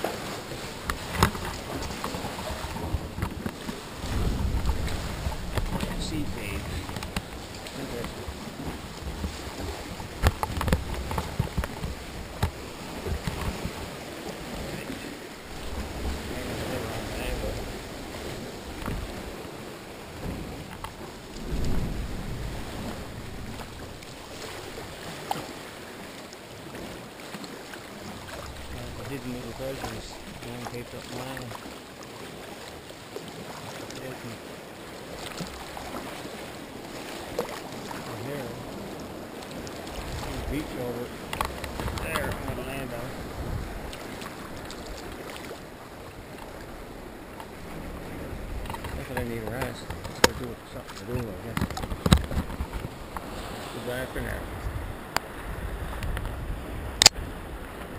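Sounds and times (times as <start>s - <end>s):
paddle strokes: 0.0s - 57.9s
water sloshing against hull: 0.0s - 57.9s.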